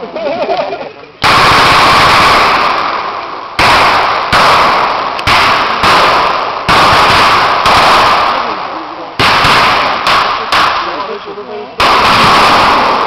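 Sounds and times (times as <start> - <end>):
gunshots with echo: 1.2 - 11.2, 11.8 - 13.0.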